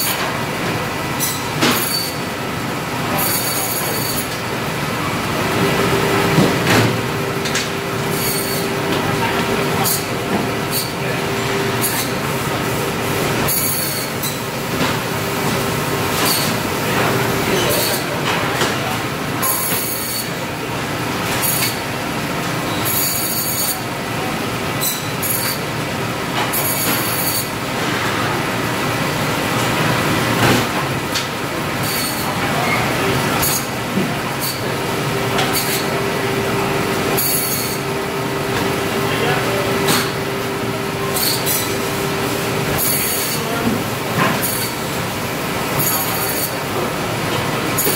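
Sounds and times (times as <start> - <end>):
meat band saw running: 0.0 - 28.3, 29.0 - 47.9.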